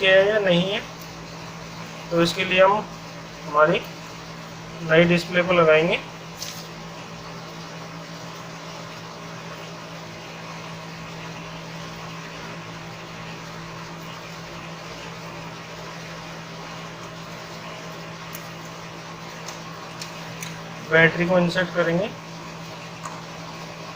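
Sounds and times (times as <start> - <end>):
steady machine hum: 0.0 - 23.9.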